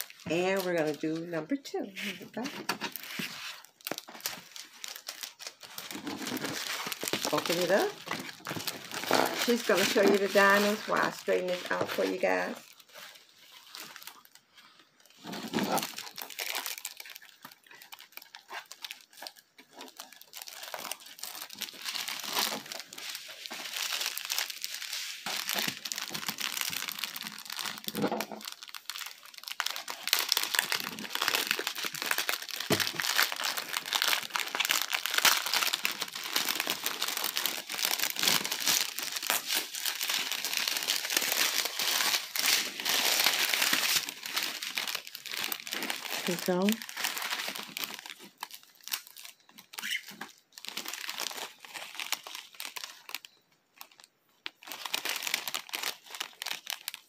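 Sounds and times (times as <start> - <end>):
plastic packaging crinkling: 0.0 - 57.0.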